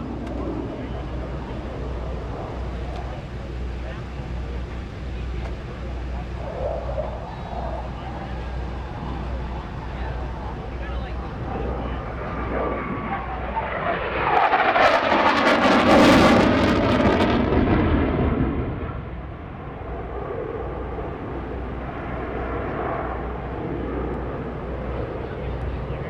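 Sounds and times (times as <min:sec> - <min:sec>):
jet engine passing low and fast: 0:00.0 - 0:26.0.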